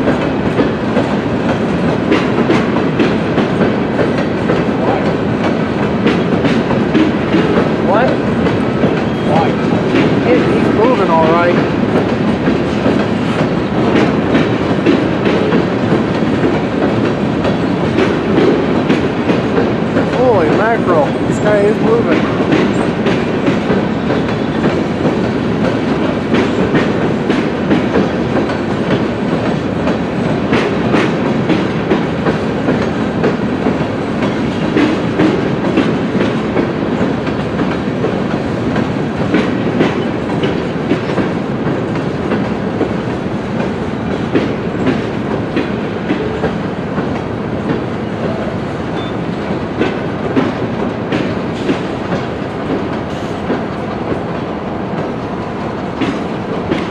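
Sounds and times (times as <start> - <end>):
train rolling rumble: 0.0 - 56.9
train wheels clattering over joints: 0.0 - 56.9.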